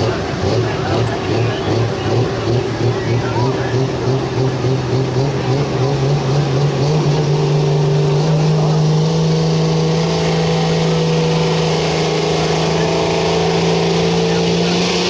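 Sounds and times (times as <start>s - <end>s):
vehicle engine running hard: 0.0s - 15.0s.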